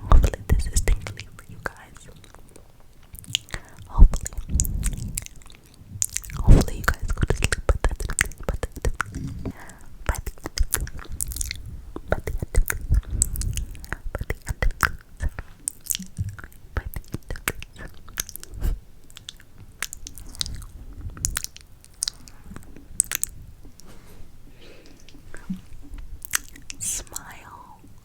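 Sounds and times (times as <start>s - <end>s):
wet mouth clicks and smacks: 0.1s - 23.9s, 24.8s - 28.0s.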